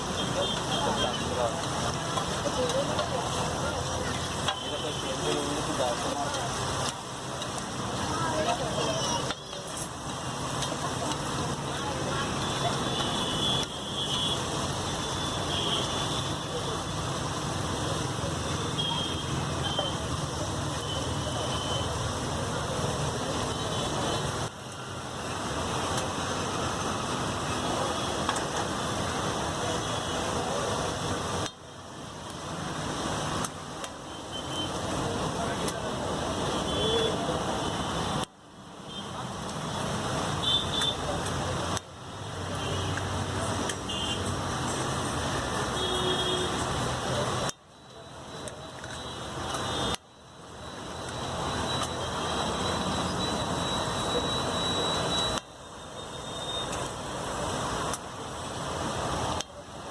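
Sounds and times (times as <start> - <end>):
street traffic: 0.0 - 59.9.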